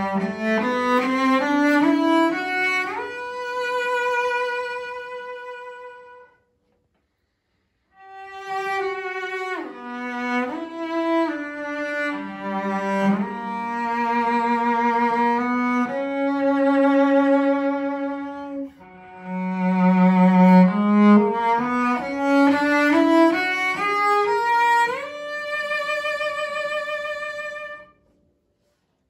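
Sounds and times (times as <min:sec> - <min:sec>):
bowed cello: 0:00.0 - 0:06.4, 0:08.0 - 0:28.0.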